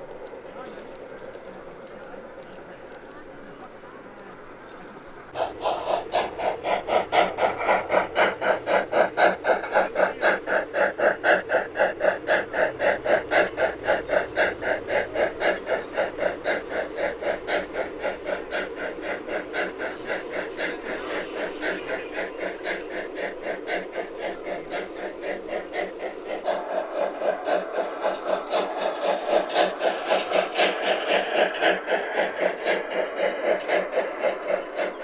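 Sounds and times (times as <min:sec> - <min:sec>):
model steam locomotive chuffing: 0:00.0 - 0:35.0.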